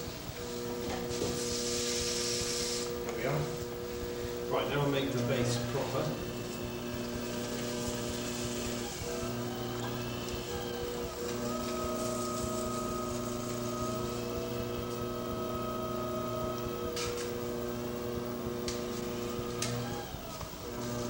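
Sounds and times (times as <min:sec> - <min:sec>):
potter's wheel motor whine: 0:00.0 - 0:21.0.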